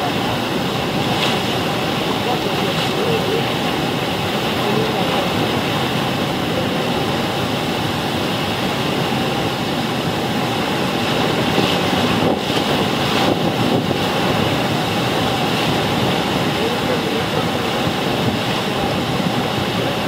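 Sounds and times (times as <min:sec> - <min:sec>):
motorboat engine running: 0:00.0 - 0:20.0
river rapids rushing: 0:00.0 - 0:20.0.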